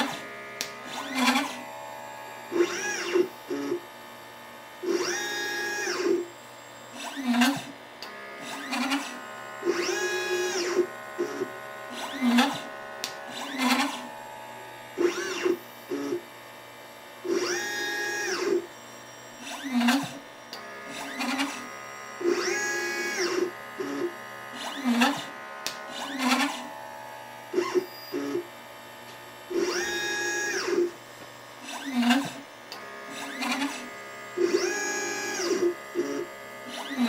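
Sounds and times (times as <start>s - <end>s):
stepper motors whining: 0.0s - 16.4s, 17.2s - 37.0s.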